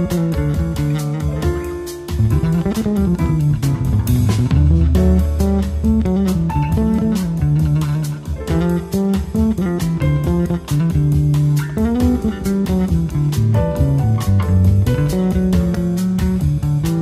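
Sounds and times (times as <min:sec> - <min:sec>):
bass: 0:00.0 - 0:17.0
plucked guitar: 0:00.0 - 0:17.0
steady beat: 0:00.0 - 0:17.0.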